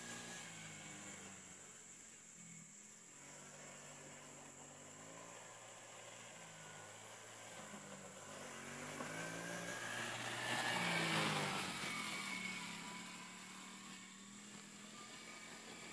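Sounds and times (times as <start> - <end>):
small atv engine passing by: 0.0 - 15.9.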